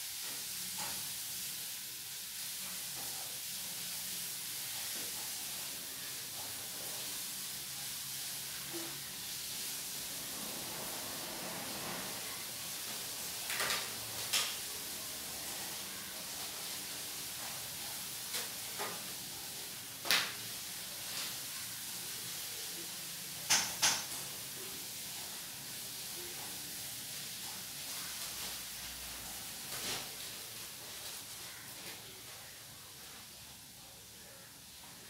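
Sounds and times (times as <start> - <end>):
steady background hiss: 0.0 - 35.0.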